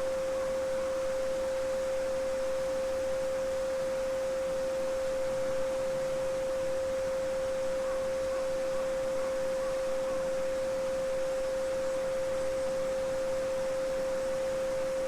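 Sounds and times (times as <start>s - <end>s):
pure sine tone: 0.0s - 15.0s.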